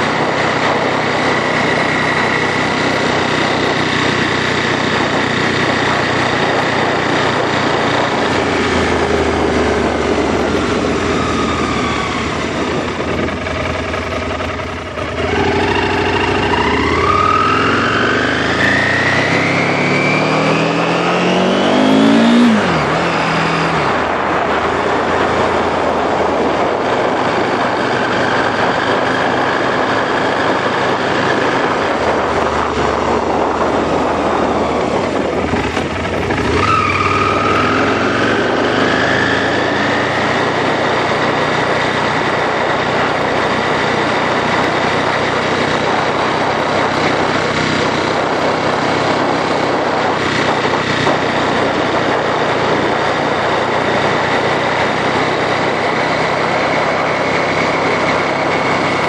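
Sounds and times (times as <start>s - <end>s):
motorcycle engine running: 0.0s - 59.0s
wind noise: 0.0s - 59.0s.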